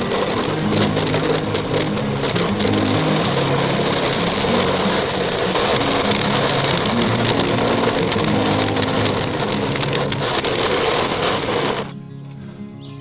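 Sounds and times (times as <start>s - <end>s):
cutter wheel rattling wood chips: 0.0s - 11.9s
stump grinder engine hum: 0.0s - 12.0s.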